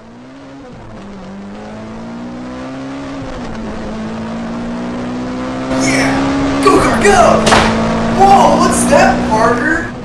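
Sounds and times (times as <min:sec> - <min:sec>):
race car engine accelerating: 0:00.0 - 0:10.0.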